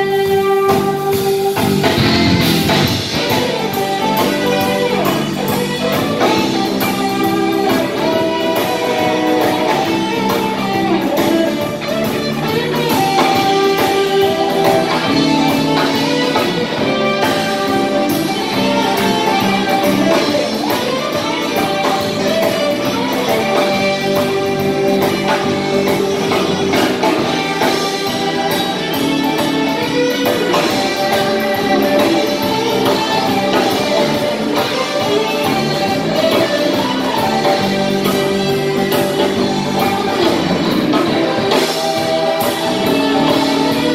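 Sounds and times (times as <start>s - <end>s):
drum kit beat: 0.0s - 43.9s
electric bass: 0.0s - 43.9s
electric guitars: 0.0s - 43.9s
keyboard: 0.0s - 43.9s.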